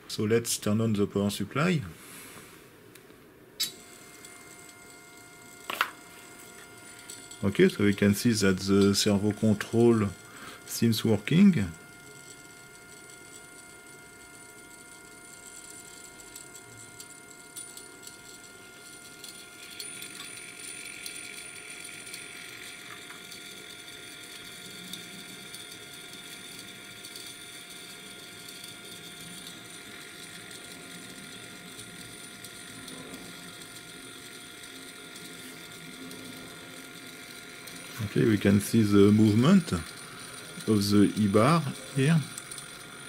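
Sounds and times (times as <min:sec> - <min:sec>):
electrical hum tones: 0:00.0 - 0:43.0.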